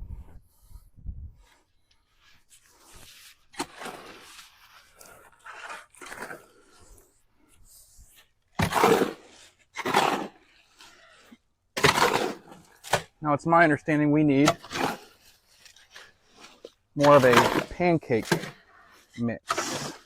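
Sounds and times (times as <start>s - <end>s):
tool scraping wet concrete: 2.2s - 20.0s.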